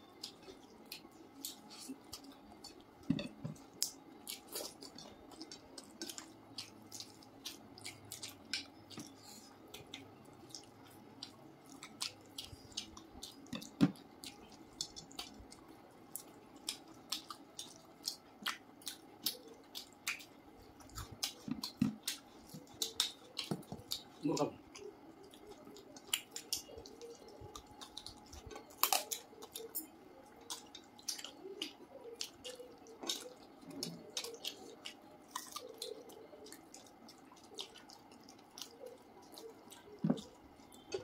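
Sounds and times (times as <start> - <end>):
chewing and lip smacks: 0.0 - 41.0.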